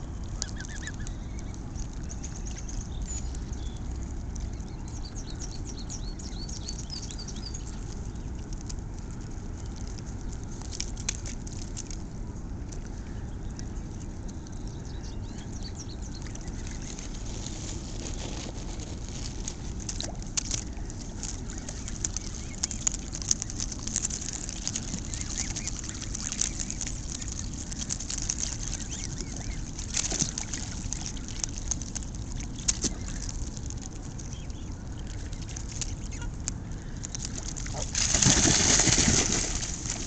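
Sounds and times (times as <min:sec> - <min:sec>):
geese splashing and pecking: 0:00.0 - 0:40.0
low steady rumble: 0:00.0 - 0:40.0.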